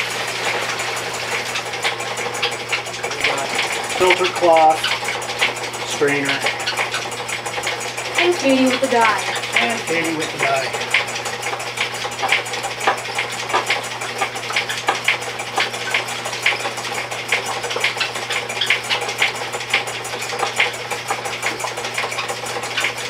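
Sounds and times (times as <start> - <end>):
machine gears clacking: 0.0 - 23.0
machine low hum: 0.0 - 23.0.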